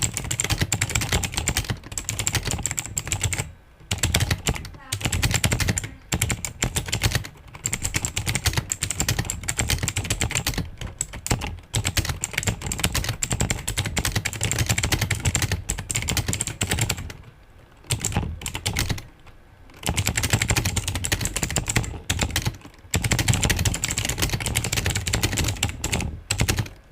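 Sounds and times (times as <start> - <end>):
mechanical keyboard typing: 0.0 - 26.9.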